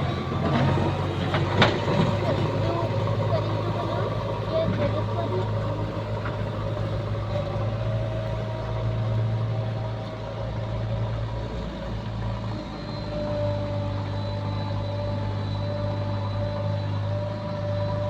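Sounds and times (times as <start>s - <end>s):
faint steady whine: 0.0s - 18.0s
heavy diesel engine running: 0.0s - 18.0s.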